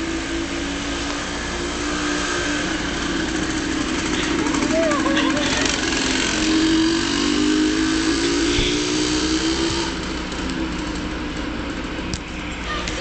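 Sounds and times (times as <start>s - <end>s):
vehicle engine hum with road noise: 0.0s - 13.0s.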